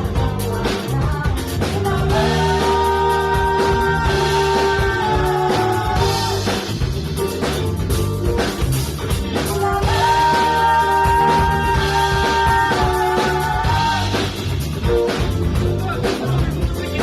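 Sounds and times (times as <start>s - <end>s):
funk rock band playing: 0.0s - 17.0s.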